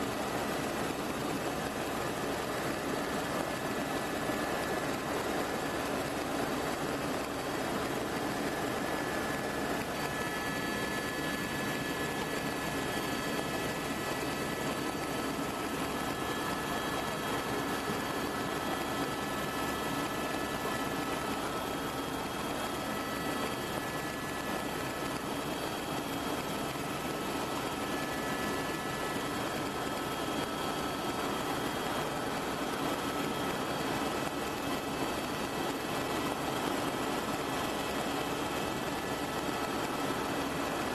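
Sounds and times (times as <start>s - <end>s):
faint high whining tones: 0.0s - 40.9s
helicopter engine and rotor drone: 0.0s - 40.9s.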